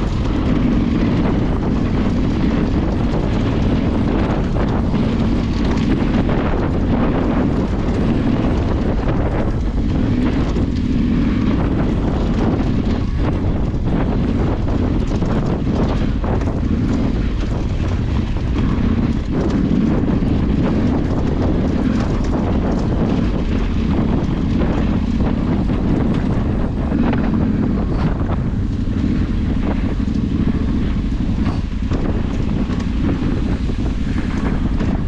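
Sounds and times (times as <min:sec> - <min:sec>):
knocks and rattles: 0:00.0 - 0:35.0
low drone: 0:00.0 - 0:35.0
wind buffeting microphone: 0:00.0 - 0:35.0.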